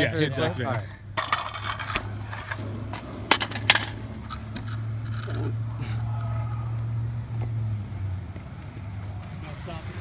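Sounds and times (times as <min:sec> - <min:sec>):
scooter rolling on asphalt: 0:00.7 - 0:10.0.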